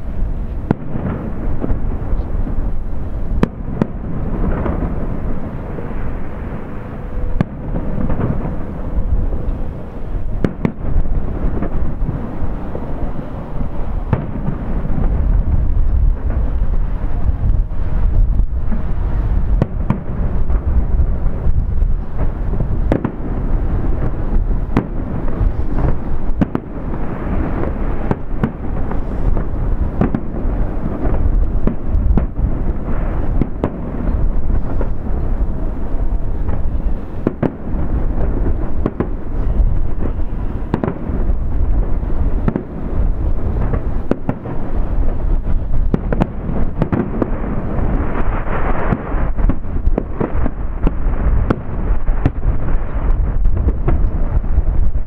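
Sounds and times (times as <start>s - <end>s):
low rumble of reports: 0.0s - 48.1s
firework bangs: 0.0s - 55.0s
firework crackle: 0.0s - 55.0s.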